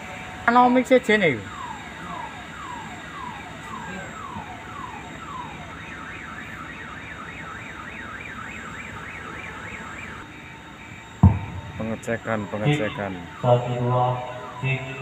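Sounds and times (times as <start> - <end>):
electronic siren: 0.0 - 15.0.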